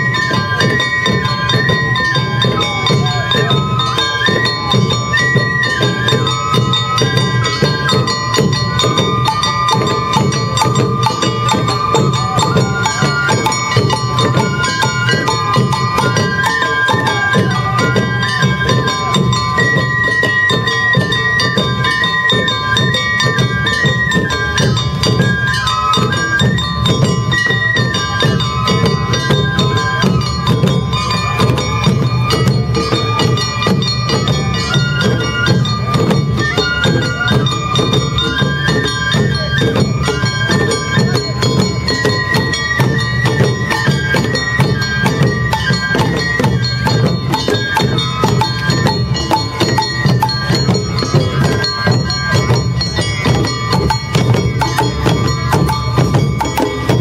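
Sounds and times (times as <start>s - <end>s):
bamboo flutes melody: 0.0s - 57.0s
large drums beating: 0.0s - 57.0s.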